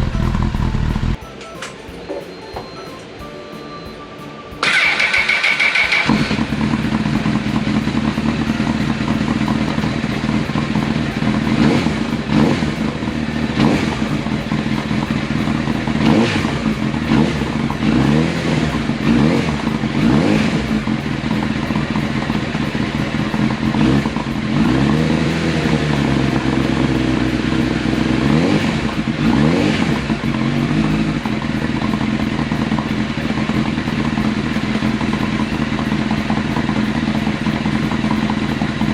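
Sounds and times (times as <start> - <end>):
motorcycle engine idling and revving: 0.0 - 1.2, 4.6 - 38.9.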